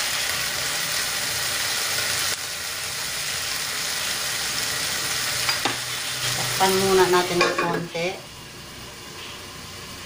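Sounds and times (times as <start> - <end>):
beans sizzling in a frying pan: 0.0 - 10.0.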